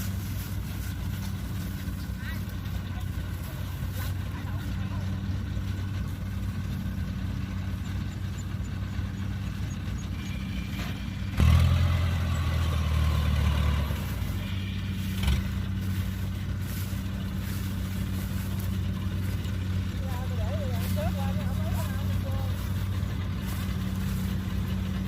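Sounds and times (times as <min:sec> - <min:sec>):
combine harvester diesel engine: 0:00.0 - 0:25.0.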